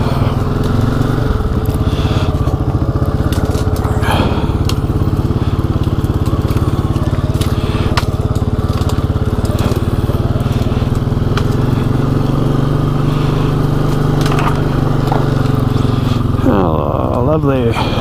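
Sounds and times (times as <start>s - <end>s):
atv engine running: 0.0s - 18.0s
branches snapping and scraping: 0.0s - 18.0s.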